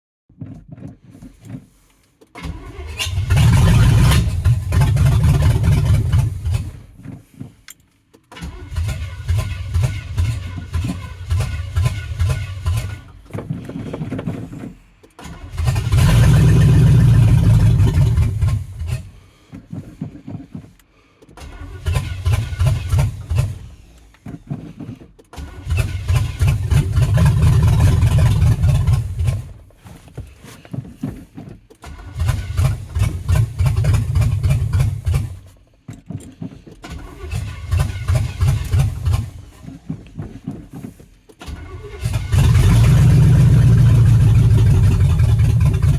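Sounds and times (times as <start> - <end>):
engine starter cranking: 1.4 - 45.9.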